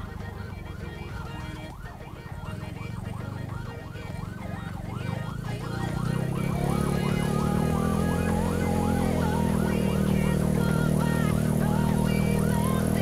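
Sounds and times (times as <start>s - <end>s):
siren wailing: 0.0s - 13.0s.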